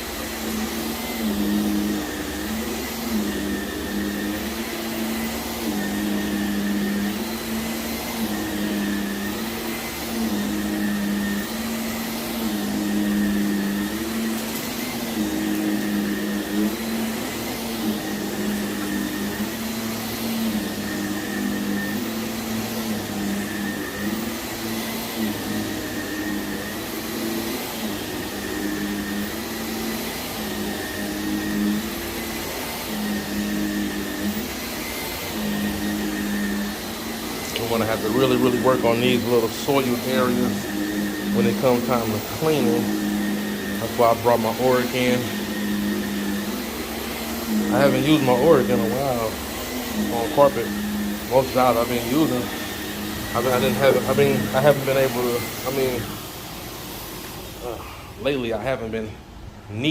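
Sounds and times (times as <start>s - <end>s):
vacuum cleaner on carpet: 0.0s - 59.9s.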